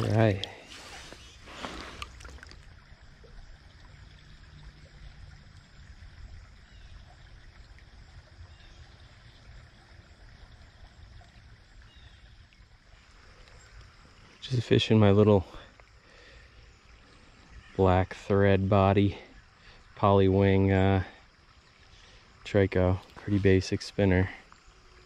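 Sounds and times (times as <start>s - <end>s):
stream flowing: 0.0s - 25.0s.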